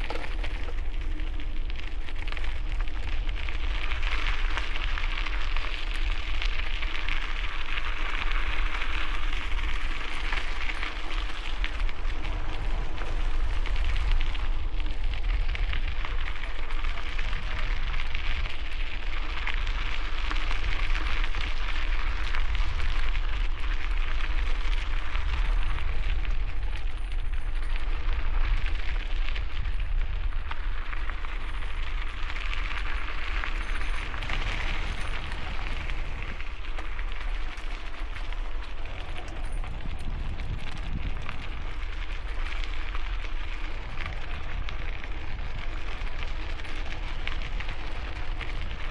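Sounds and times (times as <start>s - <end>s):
bicycle tyres on gravel: 0.0s - 48.9s
wind on microphone: 0.0s - 48.9s.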